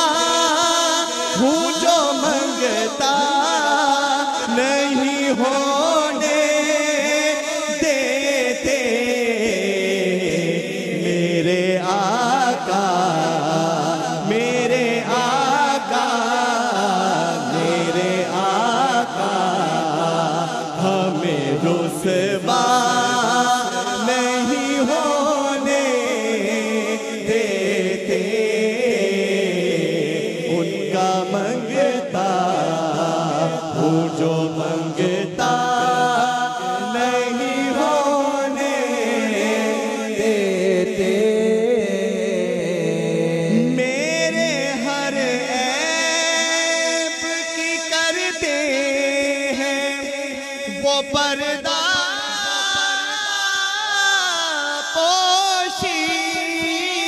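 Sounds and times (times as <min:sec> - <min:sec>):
men singing into microphones: 0:00.0 - 0:57.0.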